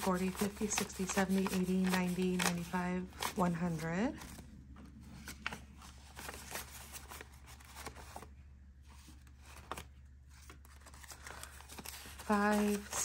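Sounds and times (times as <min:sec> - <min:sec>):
banknotes rustling and flicking: 0:00.0 - 0:13.0
low steady hum: 0:00.0 - 0:13.0.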